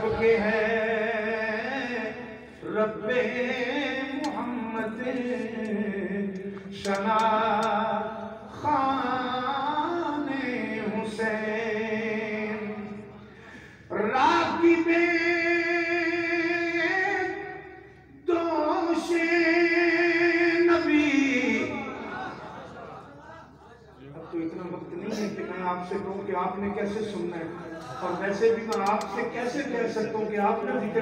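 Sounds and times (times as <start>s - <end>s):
man chanting: 0.0s - 13.2s, 13.8s - 22.1s, 24.2s - 31.0s.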